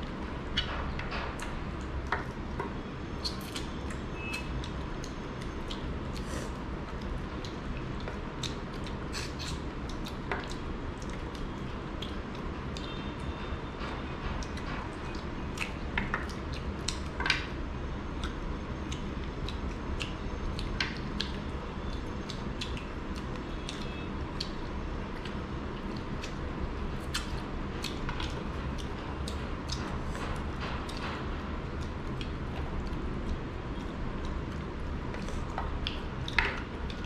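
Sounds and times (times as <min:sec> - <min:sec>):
low room hum: 0:00.0 - 0:37.0
wet squishing and chewing: 0:01.4 - 0:37.0.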